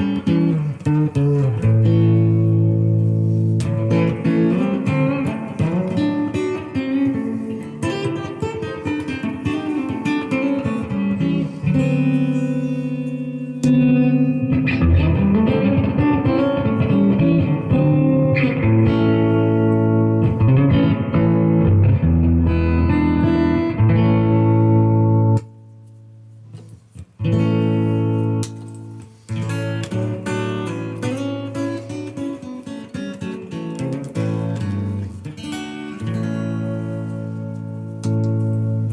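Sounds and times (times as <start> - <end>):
guitar with tape echo: 0.0 - 38.9.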